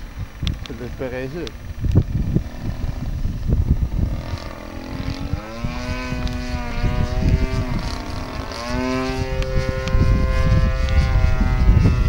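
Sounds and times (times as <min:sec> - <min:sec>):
model airplane engine: 0:00.0 - 0:12.0
wind rumble on microphone: 0:00.0 - 0:12.0.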